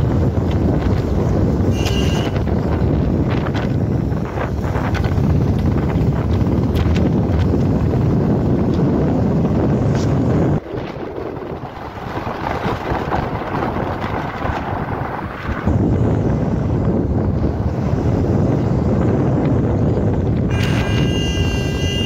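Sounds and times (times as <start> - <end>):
road noise: 0.0 - 22.0
wind buffeting microphone: 0.0 - 22.0.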